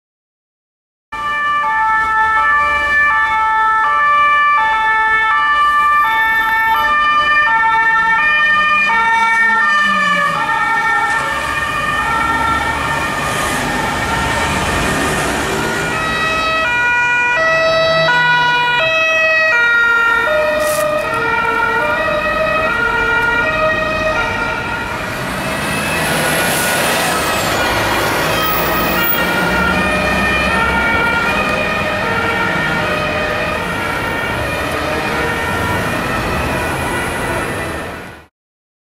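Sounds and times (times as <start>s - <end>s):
police sirens two-tone: 1.2s - 38.2s
road traffic: 1.2s - 38.3s.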